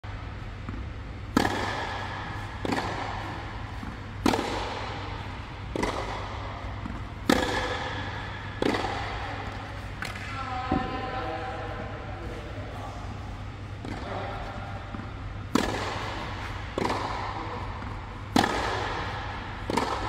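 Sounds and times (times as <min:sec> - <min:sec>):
steady low hum: 0:00.0 - 0:20.0
tennis balls struck with rackets: 0:00.4 - 0:11.0, 0:13.7 - 0:20.0.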